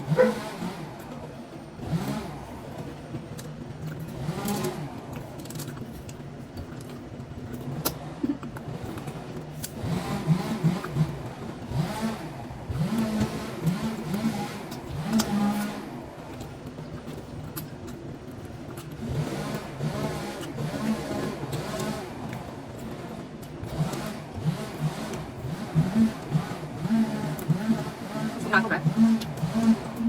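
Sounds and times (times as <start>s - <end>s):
machinery engine noise: 0.0s - 30.0s.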